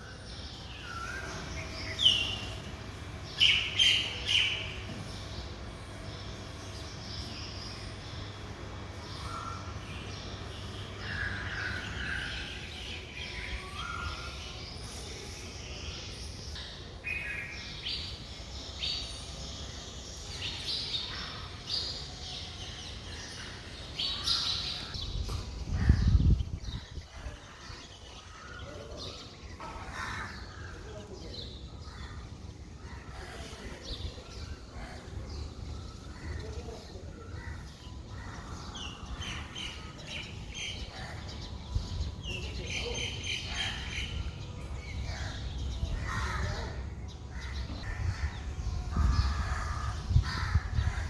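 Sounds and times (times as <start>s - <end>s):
birds calling and chirping: 0.0s - 51.0s.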